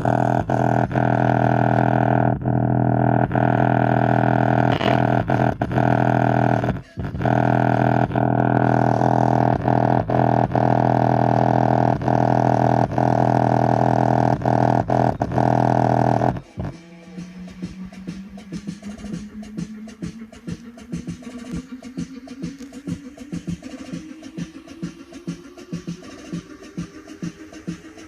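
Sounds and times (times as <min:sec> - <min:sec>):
droning bass tone from subwoofer: 0:00.0 - 0:24.1.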